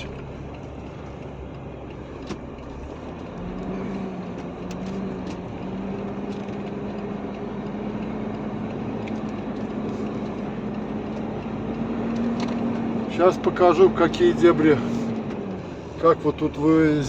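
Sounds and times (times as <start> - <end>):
truck engine from inside cab: 0.0 - 17.0.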